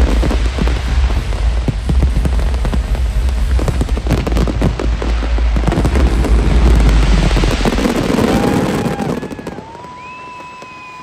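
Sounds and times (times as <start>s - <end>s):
deep rumble: 0.0s - 10.2s
firework bangs and crackles: 0.0s - 11.0s
firework whistling: 0.0s - 11.0s.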